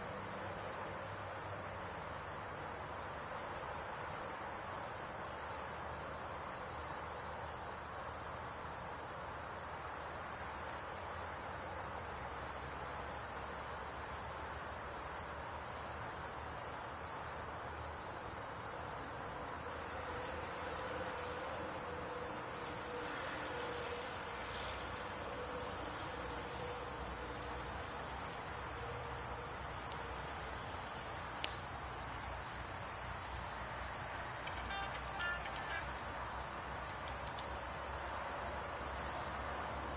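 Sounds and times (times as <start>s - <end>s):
insects chirping drone: 0.0s - 39.9s.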